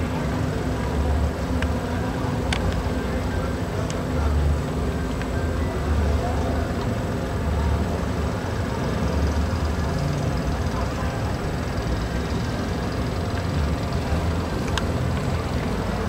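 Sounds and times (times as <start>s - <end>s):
faint crowd murmur: 0.0s - 16.0s.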